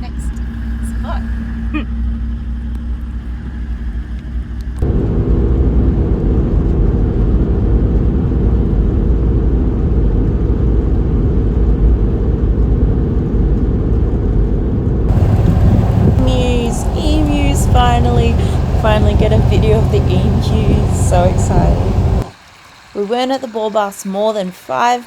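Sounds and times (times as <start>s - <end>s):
vehicle engine and road noise: 0.0s - 22.9s.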